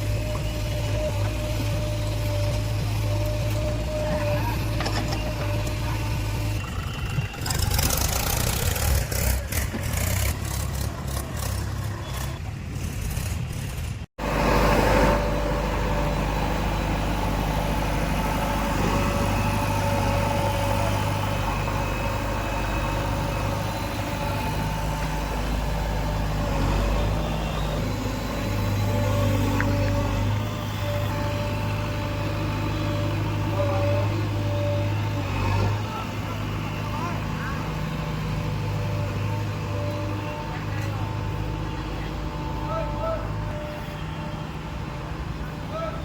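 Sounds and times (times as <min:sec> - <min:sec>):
faint engine whine: 0:00.0 - 0:46.0
heavy diesel engine running: 0:00.0 - 0:46.0.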